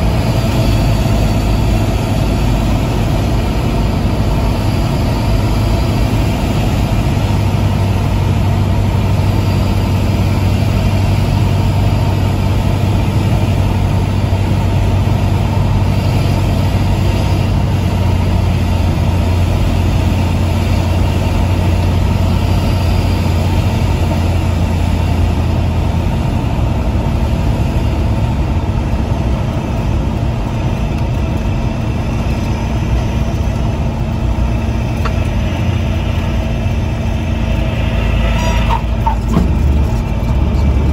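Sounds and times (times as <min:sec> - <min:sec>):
airplane engine and propeller drone: 0:00.0 - 0:40.9.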